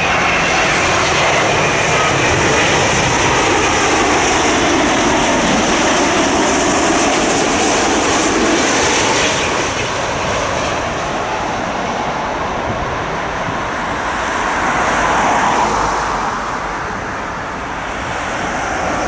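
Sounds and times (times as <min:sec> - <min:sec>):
jet airliner engines: 0:00.0 - 0:19.0.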